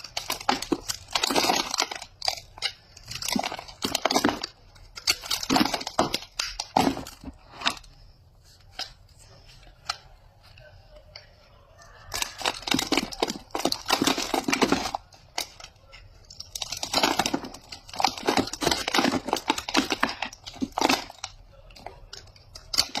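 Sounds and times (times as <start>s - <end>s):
wrapper crinkling and tearing: 0.0s - 8.0s, 12.0s - 23.0s.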